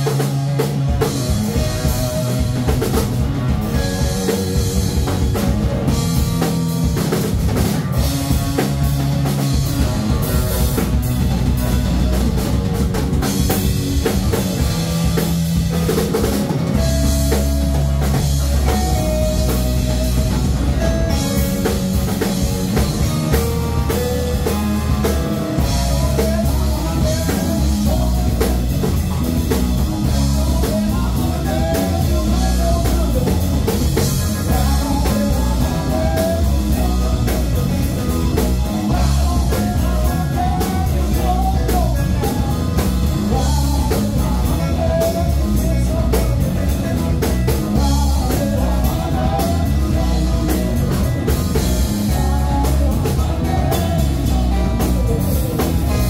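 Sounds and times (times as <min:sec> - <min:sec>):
drum kit: 0:00.0 - 0:56.0
electric bass: 0:00.0 - 0:56.0
electric guitar: 0:00.0 - 0:56.0
stage piano: 0:00.0 - 0:56.0.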